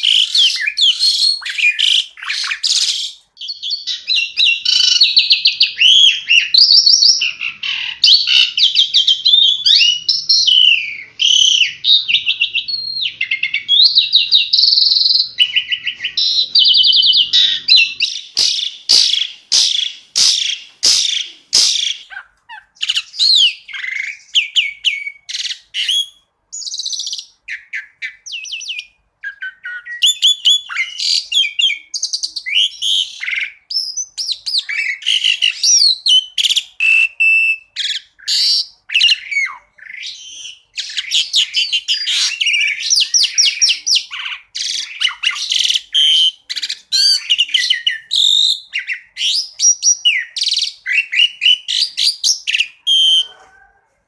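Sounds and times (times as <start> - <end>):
starling singing varied song: 0.0 - 53.7.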